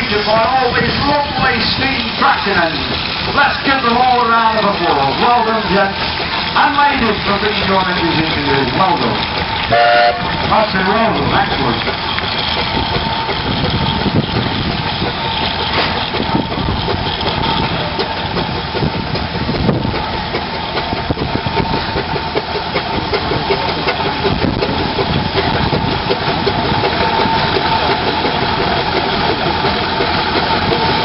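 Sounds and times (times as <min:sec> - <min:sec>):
steam engine exhaust beating: 0:00.0 - 0:31.0.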